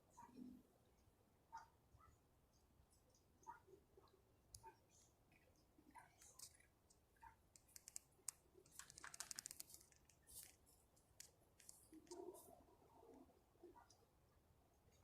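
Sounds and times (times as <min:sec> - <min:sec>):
faint clicks and crackles: 0:00.0 - 0:15.0.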